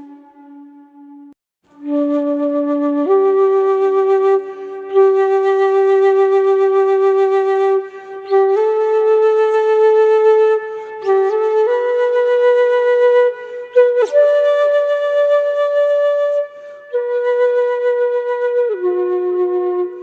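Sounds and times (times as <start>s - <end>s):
flute playing slow melody: 0.0s - 20.0s.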